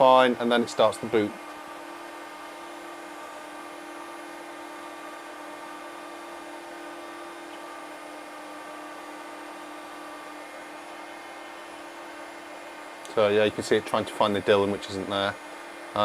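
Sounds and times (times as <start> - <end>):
computer system whir and hum: 0.0 - 16.0.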